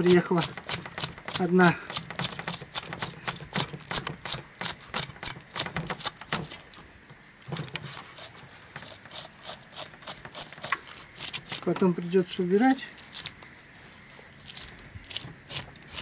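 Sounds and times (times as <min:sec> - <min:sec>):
knife scraping fish scales: 0:00.0 - 0:16.0.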